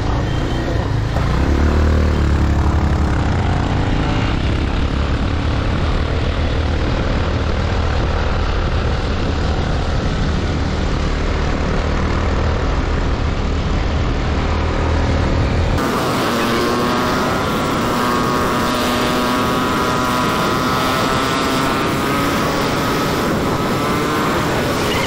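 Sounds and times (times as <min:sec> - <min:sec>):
motorcycle engines running: 0:00.0 - 0:25.0
road rumble: 0:00.0 - 0:25.0
wind: 0:00.0 - 0:25.0.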